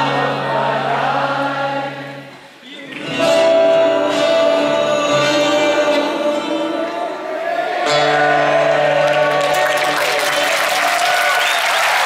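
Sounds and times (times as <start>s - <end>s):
acoustic guitar: 0.0s - 10.5s.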